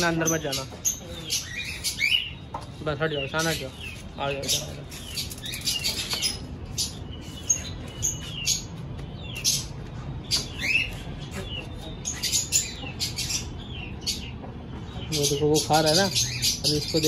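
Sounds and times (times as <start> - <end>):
parrots chirping: 0.0 - 17.0.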